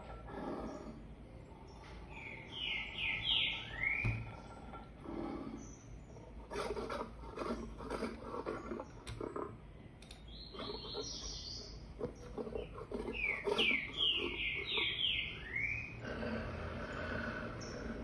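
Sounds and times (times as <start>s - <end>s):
bird chirping: 0.6s - 6.8s, 7.4s - 16.2s.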